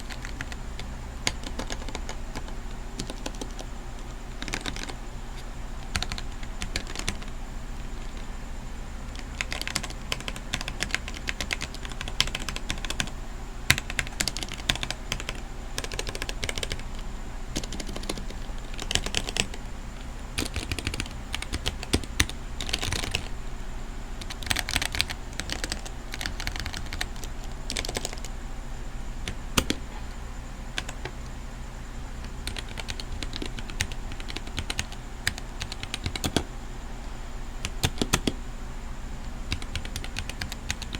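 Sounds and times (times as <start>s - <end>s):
mechanical keyboard typing: 0.0s - 8.3s, 9.0s - 19.7s, 20.4s - 23.3s, 24.2s - 28.3s, 29.2s - 30.0s, 30.7s - 31.3s, 32.2s - 36.5s, 37.6s - 38.4s, 39.5s - 40.9s.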